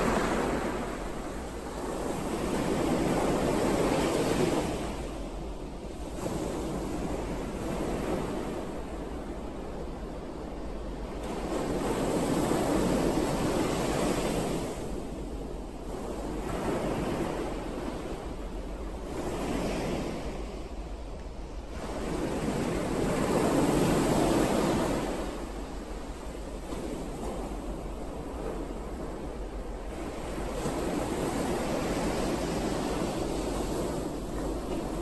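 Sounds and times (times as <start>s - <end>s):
ocean waves washing ashore: 0.0s - 35.0s.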